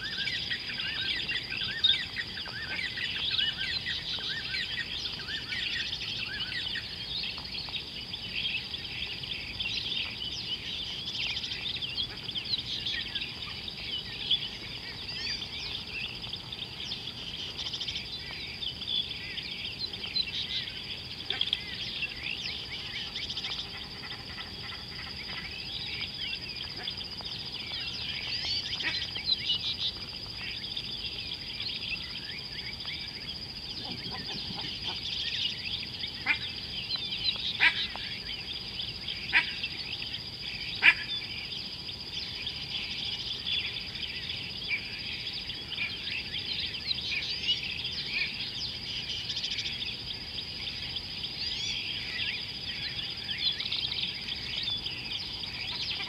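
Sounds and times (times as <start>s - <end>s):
many birds chirping: 0.0s - 56.0s.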